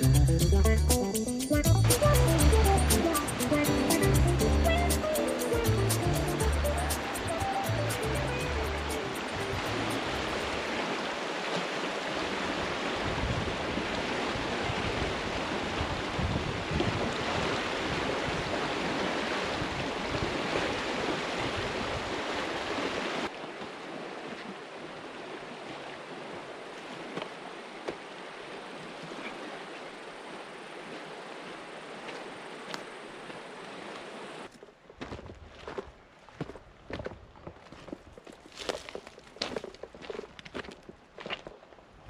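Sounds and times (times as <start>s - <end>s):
rushing river water: 0.0s - 0.3s, 0.9s - 34.5s.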